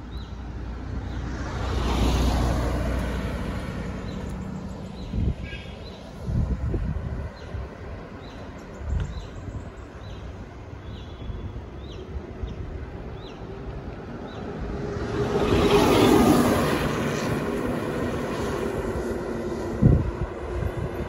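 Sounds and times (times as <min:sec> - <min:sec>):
lorry engine and tyres: 0:00.0 - 0:21.0
wind and bicycle road rumble: 0:00.0 - 0:21.0.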